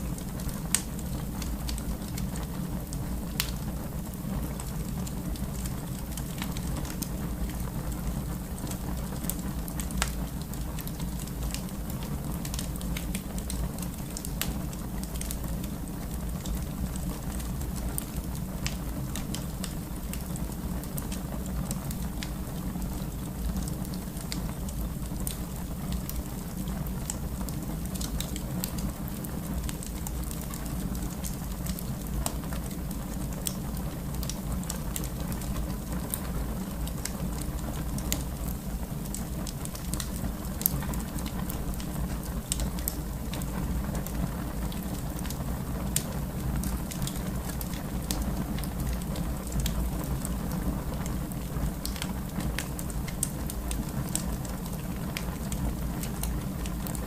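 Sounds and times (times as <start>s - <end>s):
fire flame rumble: 0.0s - 57.0s
wood fire crackling and popping: 0.0s - 57.0s.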